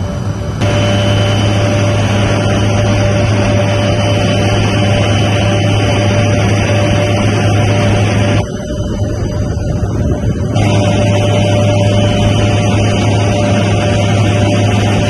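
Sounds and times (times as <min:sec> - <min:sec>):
helicopter engine drone: 0:00.0 - 0:15.0.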